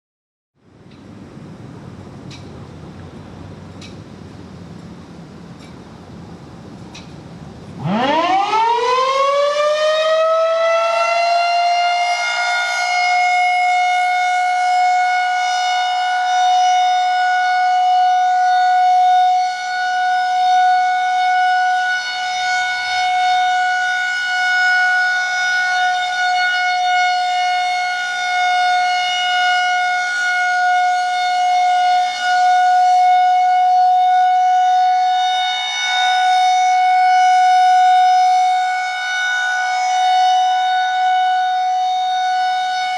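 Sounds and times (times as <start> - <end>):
warning siren steady tone: 7.7 - 42.9.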